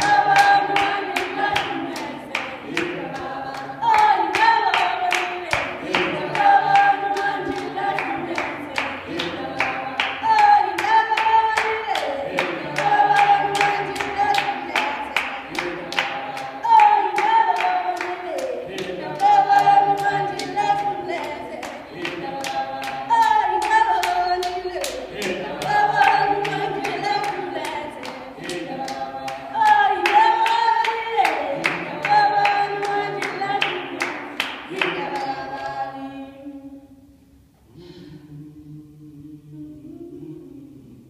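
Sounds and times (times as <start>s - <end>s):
hand clapping: 0.0s - 35.8s
group singing unaccompanied: 0.0s - 41.0s.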